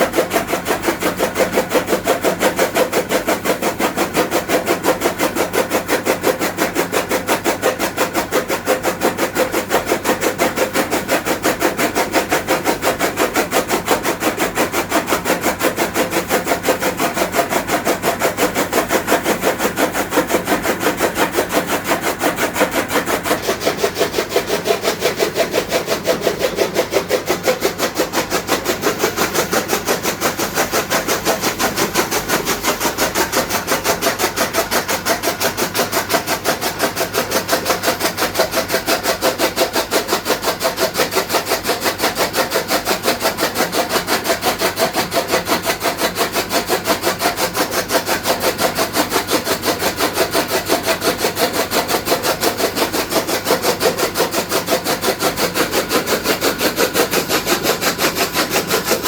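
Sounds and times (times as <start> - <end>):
chaff cutter chopping fodder: 0.0 - 59.0.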